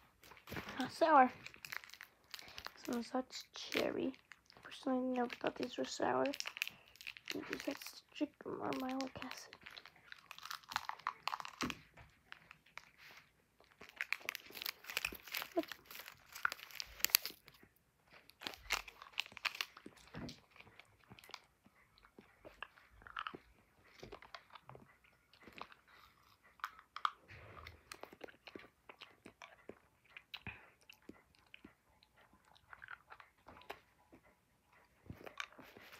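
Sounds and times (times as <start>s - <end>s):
child chewing crunchy candy: 0.0s - 35.9s.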